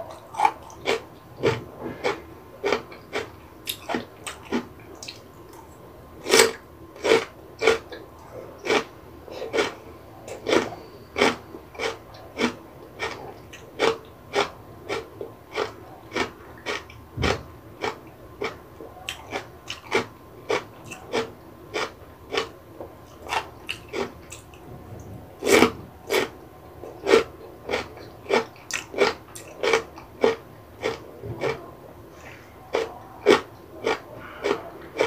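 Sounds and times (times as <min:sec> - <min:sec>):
person crunching vegetables: 0:00.0 - 0:24.6, 0:25.4 - 0:35.0.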